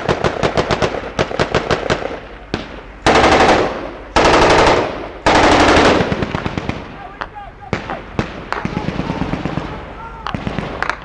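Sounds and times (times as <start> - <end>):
automatic gunfire: 0.0 - 7.0, 7.7 - 9.8, 10.4 - 11.0.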